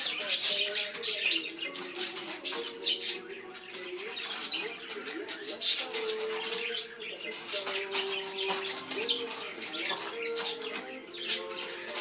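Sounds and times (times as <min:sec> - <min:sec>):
paper rustling and scratching: 0:00.0 - 0:12.0.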